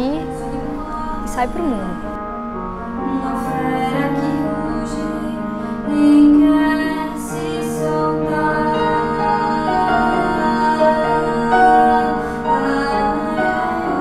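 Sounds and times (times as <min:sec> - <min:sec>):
woman singing: 0:00.0 - 0:02.2, 0:03.0 - 0:14.0
electronic keyboard chords: 0:00.0 - 0:14.0.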